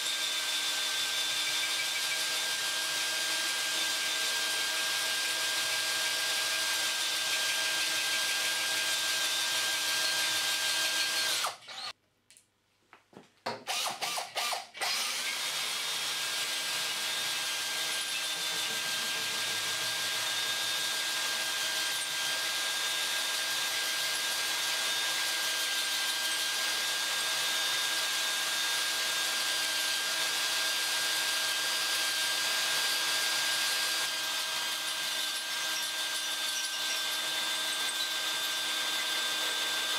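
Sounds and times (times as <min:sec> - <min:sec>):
drill motor whining: 0:00.0 - 0:11.9, 0:13.7 - 0:39.9
hole saw grinding metal: 0:00.0 - 0:11.9, 0:13.7 - 0:39.9.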